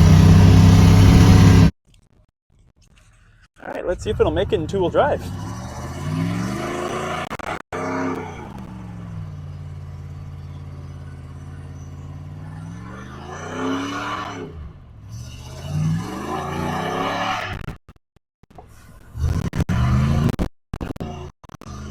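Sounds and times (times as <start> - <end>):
truck engine revving: 0.0 - 1.7, 3.6 - 17.8, 18.5 - 21.9.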